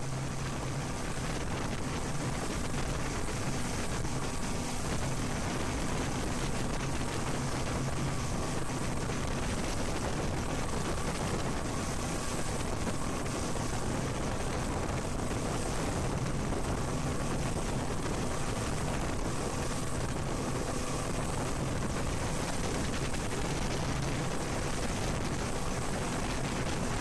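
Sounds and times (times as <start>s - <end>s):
motorboat engine hum: 0.0s - 27.0s
wind and water rushing: 0.0s - 27.0s.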